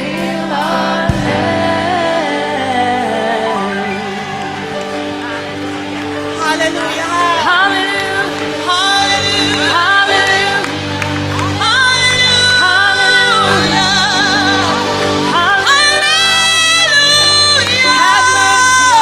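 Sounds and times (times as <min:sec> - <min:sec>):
choir singing gospel song: 0:00.0 - 0:19.0
sustained instrumental chords: 0:00.0 - 0:19.0.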